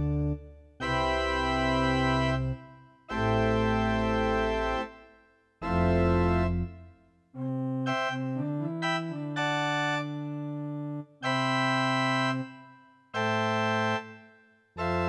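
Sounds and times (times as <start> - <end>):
electronic keyboard chords: 0.0 - 15.0.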